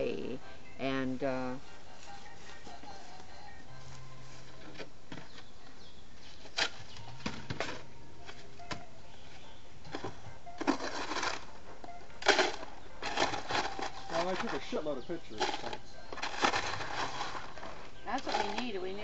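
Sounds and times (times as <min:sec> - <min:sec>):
wild birds singing: 0:00.0 - 0:19.0.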